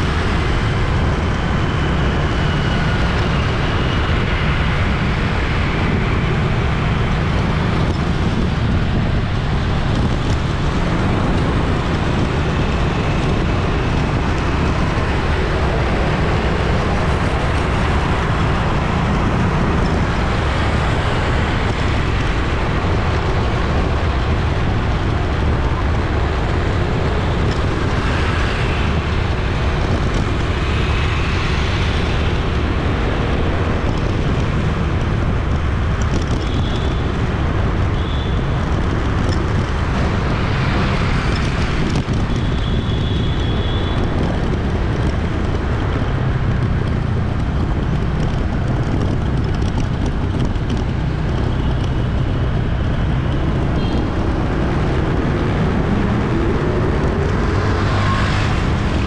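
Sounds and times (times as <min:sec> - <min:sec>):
traffic passing: 0:00.0 - 0:59.0.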